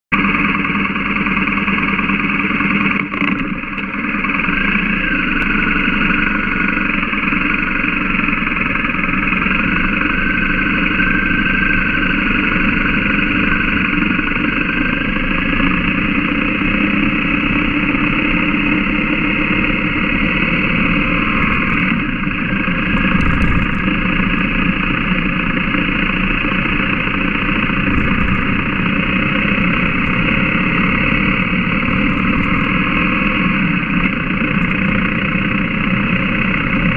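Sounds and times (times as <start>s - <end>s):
motorcycle engine running: 0.1s - 36.9s.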